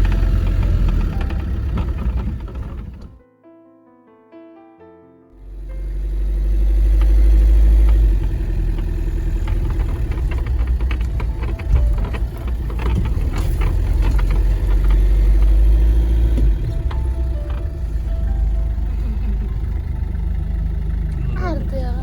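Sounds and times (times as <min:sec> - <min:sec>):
vehicle rumbling: 0:00.0 - 0:03.2, 0:05.4 - 0:22.0.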